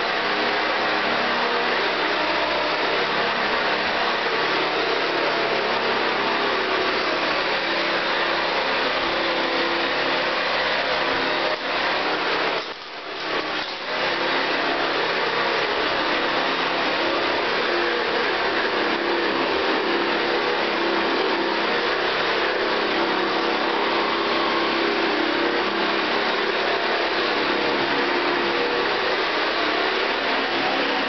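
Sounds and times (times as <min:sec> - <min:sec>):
vacuum cleaner on carpet: 0:00.0 - 0:31.0.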